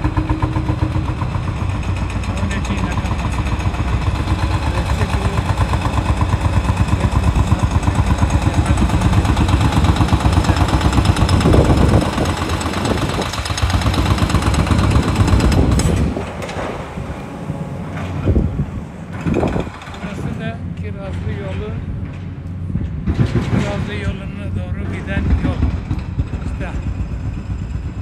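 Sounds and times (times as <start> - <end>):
diesel machinery pulsing thud: 0.0 - 28.0.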